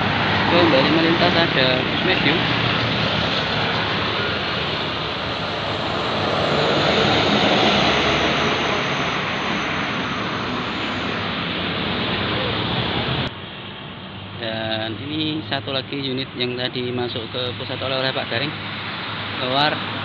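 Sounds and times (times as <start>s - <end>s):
bus driving past: 0.0s - 20.0s.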